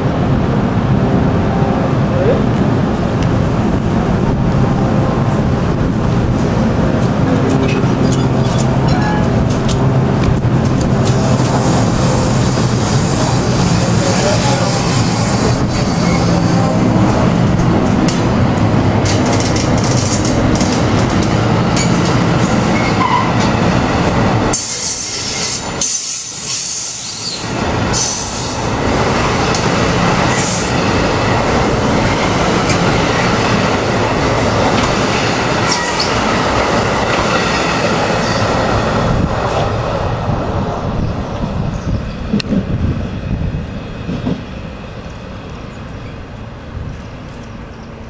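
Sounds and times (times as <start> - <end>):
train wheels on rails: 2.0 - 48.0.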